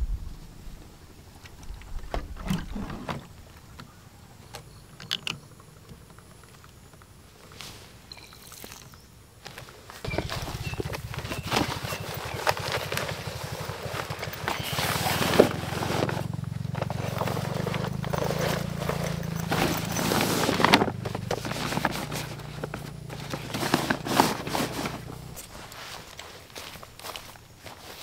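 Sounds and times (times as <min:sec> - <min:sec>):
low mechanical hum: 0:00.0 - 0:27.8.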